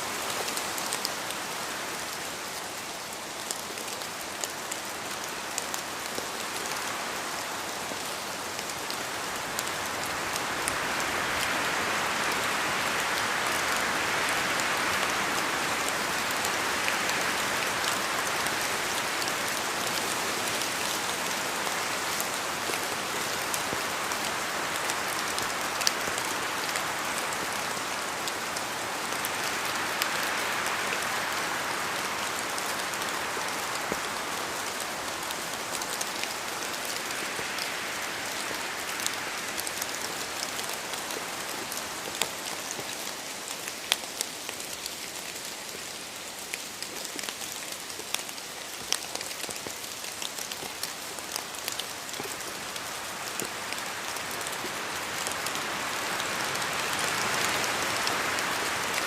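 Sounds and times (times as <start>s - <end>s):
steady rain pattering: 0.0s - 59.0s.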